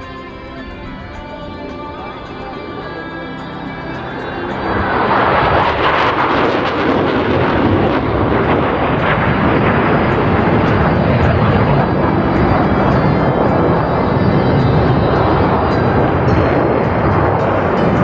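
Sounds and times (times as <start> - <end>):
jet engines flying over: 0.0 - 18.0.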